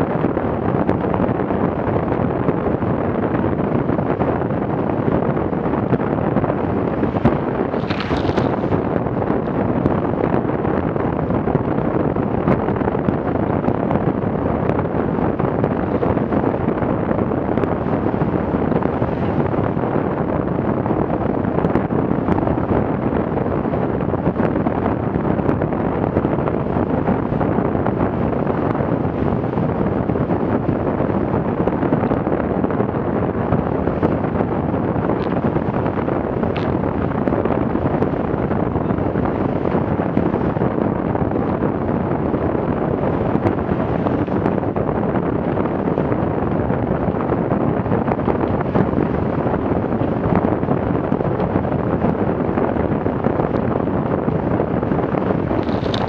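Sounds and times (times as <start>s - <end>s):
wind buffeting microphone: 0.0s - 56.0s
water rushing along hull: 0.1s - 56.0s.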